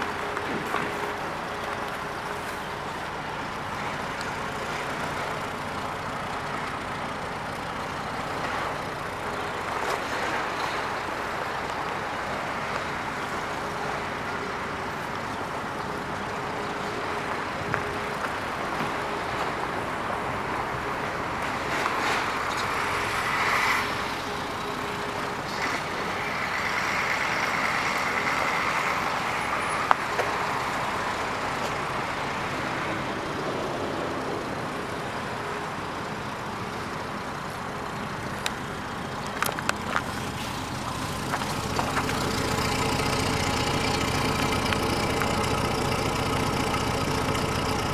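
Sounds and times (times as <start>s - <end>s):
road traffic noise: 0.0s - 47.9s.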